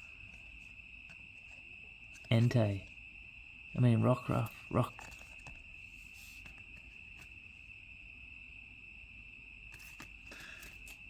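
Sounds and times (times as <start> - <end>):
faint high-pitched whine: 0.0 - 11.0.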